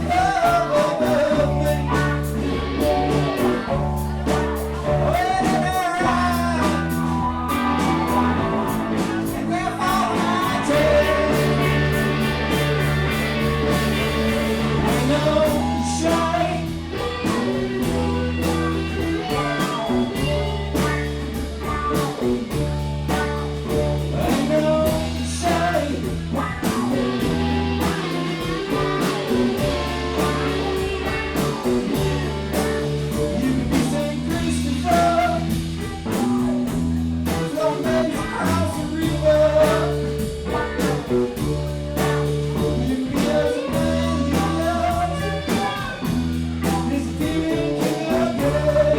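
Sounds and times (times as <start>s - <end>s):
bass guitar: 0.0s - 48.9s
electric lead guitar: 0.0s - 48.9s
slide guitar: 0.0s - 48.9s
steady drum beat: 0.0s - 48.9s.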